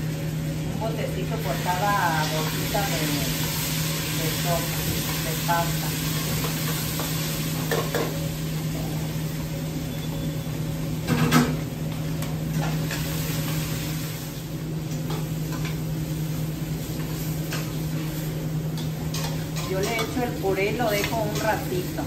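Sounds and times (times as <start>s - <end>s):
pasta and onion sizzling in pot: 0.0s - 22.0s.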